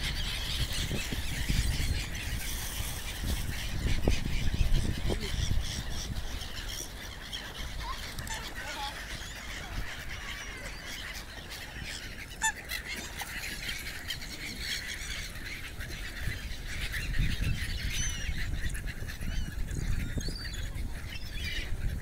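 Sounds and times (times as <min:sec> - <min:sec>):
waterbirds calling: 0:00.0 - 0:22.0.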